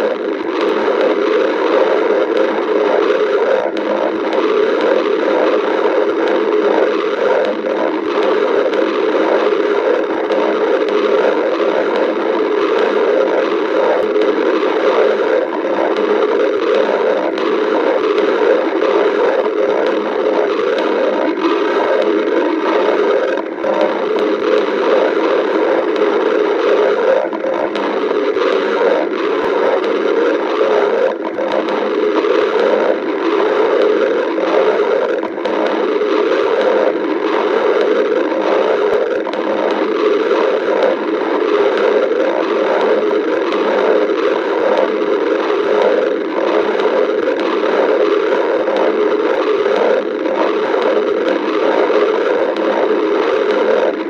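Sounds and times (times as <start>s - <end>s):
stomach growling: 0.0s - 54.0s.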